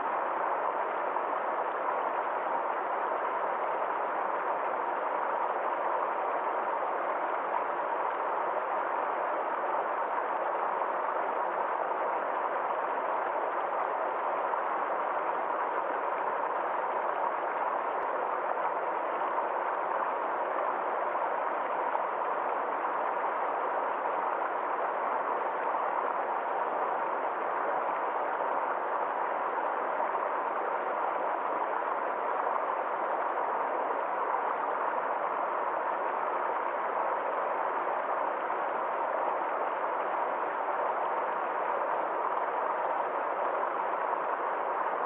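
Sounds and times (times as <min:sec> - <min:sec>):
stream flowing: 0:00.0 - 0:45.0.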